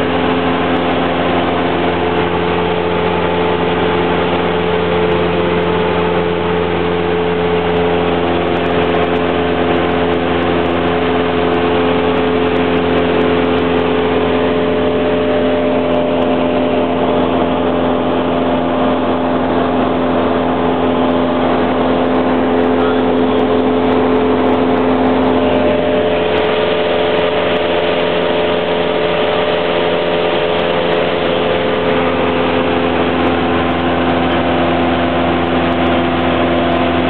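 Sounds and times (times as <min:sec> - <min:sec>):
propeller plane engine droning: 0:00.0 - 0:37.0.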